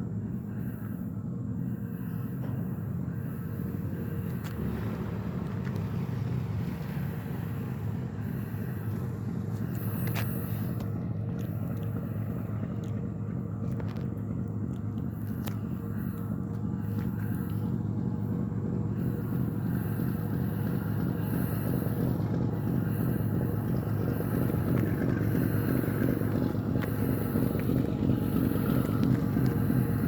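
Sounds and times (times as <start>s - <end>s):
faint steady tone: 0.0s - 30.0s
freight train rumbling past: 1.2s - 12.5s, 15.8s - 30.0s.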